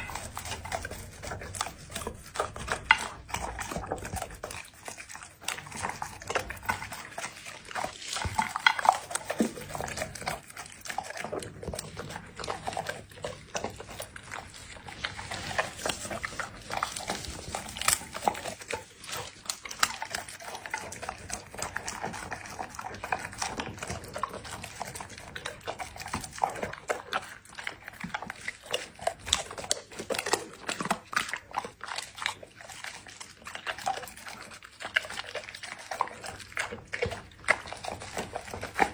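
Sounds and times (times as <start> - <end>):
dog chewing and crunching: 0.0 - 38.9.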